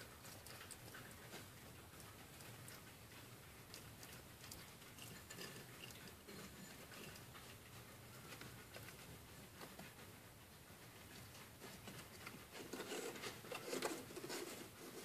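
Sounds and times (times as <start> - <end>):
hedgehogs clicking and rustling: 0.0 - 15.0.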